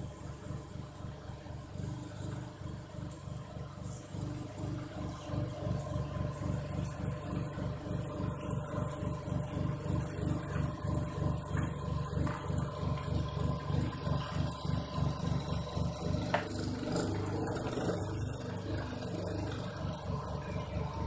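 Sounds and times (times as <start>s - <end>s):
pellet machine motor humming: 0.0s - 21.0s.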